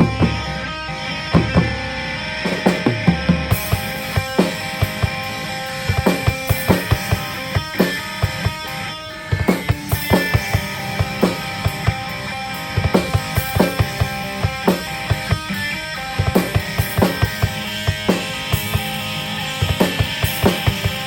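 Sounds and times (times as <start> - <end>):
drum kit beat: 0.0 - 0.7, 1.3 - 21.0
electric guitar: 0.0 - 21.0.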